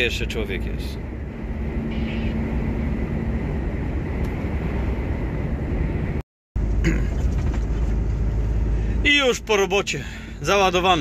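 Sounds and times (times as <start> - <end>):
lorry engine and road rumble: 0.0 - 11.0.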